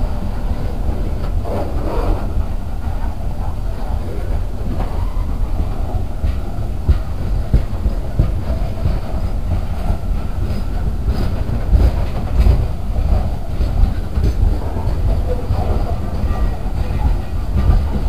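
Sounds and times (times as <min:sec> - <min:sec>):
train cars rumbling: 0:00.0 - 0:18.0
wheels clacking on rails: 0:00.0 - 0:18.0.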